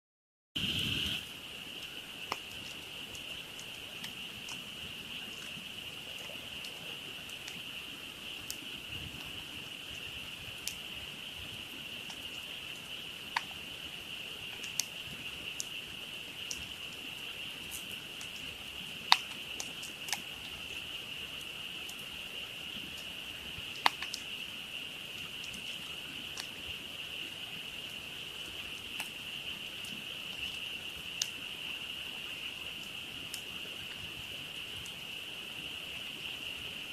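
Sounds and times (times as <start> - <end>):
campfire crackling and popping: 0.6 - 36.9
frog chorus: 1.0 - 36.9.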